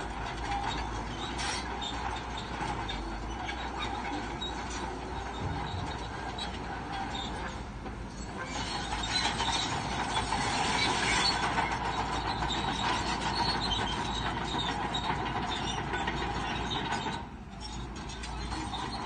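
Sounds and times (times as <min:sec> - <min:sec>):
bulldozer diesel engine under load: 0:00.0 - 0:19.0
steel tracks clanking and squealing: 0:00.0 - 0:19.0.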